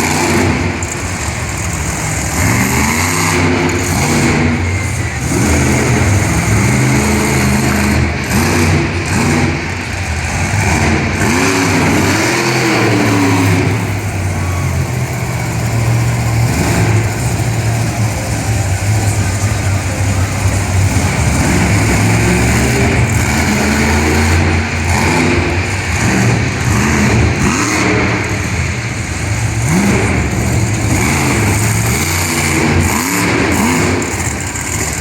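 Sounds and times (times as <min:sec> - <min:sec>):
monster truck engine revving: 0:00.0 - 0:35.0.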